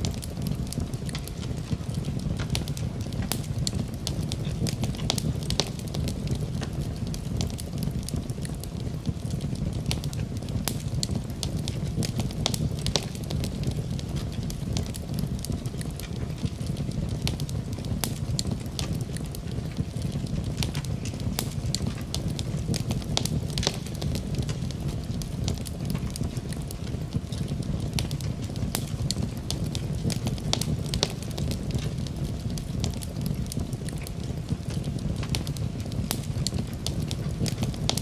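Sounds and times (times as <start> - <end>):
fire flame rumble: 0.0 - 38.0
wood crackling and popping: 0.0 - 38.0.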